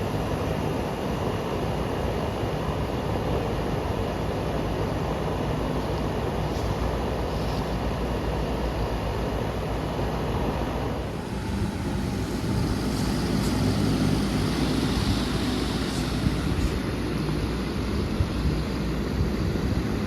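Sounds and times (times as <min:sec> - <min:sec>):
air conditioner fan and compressor hum: 0:00.0 - 0:20.0.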